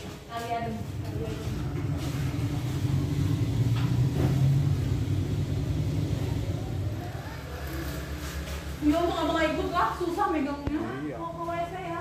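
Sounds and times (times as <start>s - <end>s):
vehicle engine rumbling: 0.8s - 10.6s.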